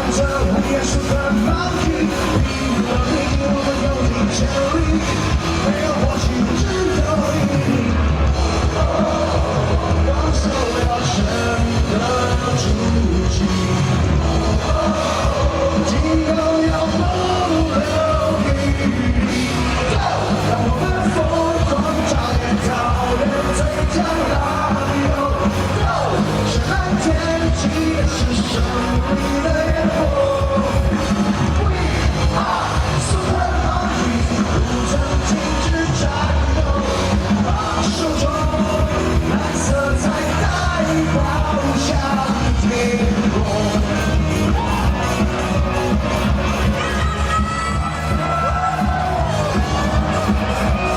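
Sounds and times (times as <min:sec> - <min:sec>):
person singing lead: 0:00.0 - 0:45.6
live rock band playing: 0:00.0 - 0:50.9.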